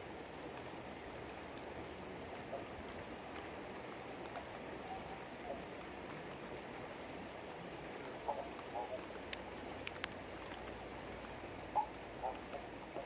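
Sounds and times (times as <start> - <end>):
flowing river water: 0.0 - 13.0
rain hissing: 0.0 - 13.0
faint ticks: 0.2 - 6.5, 7.3 - 13.0.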